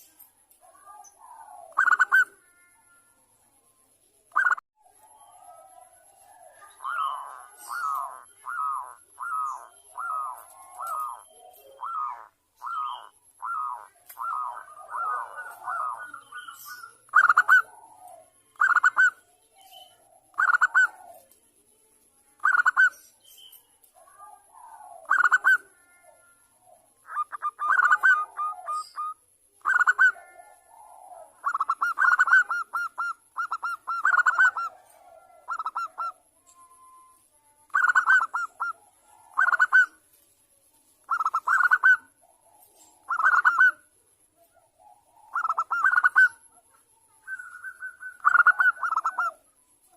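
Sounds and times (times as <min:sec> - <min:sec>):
dove cooing: 0:00.0 - 0:03.0, 0:04.4 - 0:21.3, 0:24.0 - 0:37.1, 0:37.7 - 0:40.0, 0:41.0 - 0:49.5.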